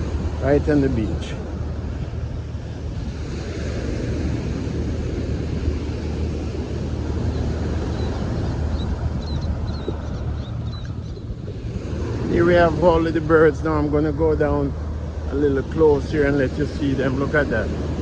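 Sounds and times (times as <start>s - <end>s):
ocean surf washing on shore: 0.0s - 18.0s
wind buffeting microphone: 0.0s - 18.0s.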